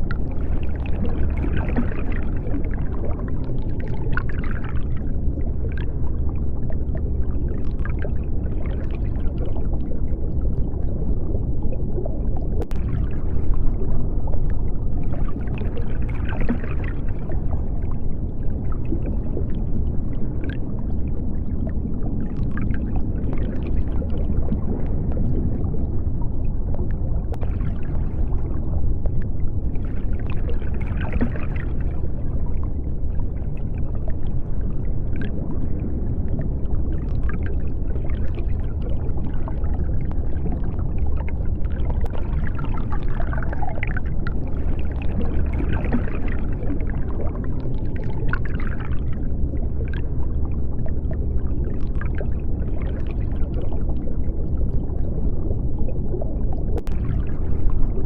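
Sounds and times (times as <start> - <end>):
bubbling: 0.0 - 58.0
deep underwater rumble: 0.0 - 58.0.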